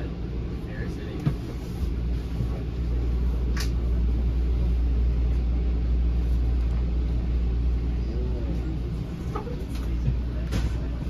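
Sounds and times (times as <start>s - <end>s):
train coach rumbling on rails: 0.0s - 11.0s.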